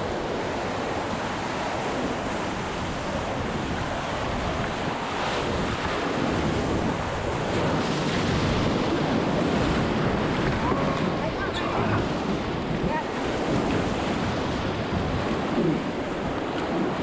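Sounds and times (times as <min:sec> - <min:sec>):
whitewater rapids rushing: 0:00.0 - 0:17.0.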